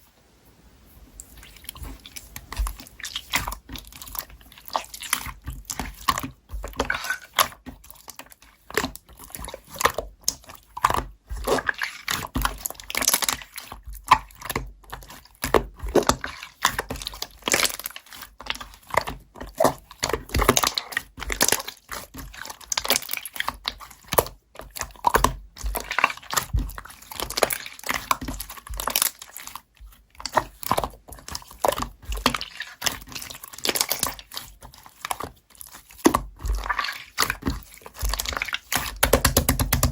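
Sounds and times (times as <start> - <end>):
slime squished by hand: 1.3 - 39.9.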